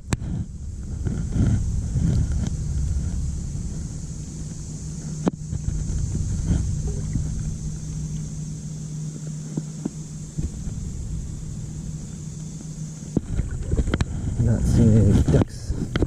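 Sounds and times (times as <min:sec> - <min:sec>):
steady low hum: 0:00.0 - 0:16.0
wind rumble on microphone: 0:00.0 - 0:16.0.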